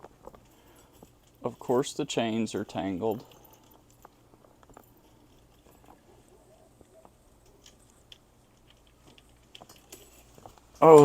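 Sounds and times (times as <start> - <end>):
small metal chains clinking: 0.0 - 6.2, 7.4 - 10.6.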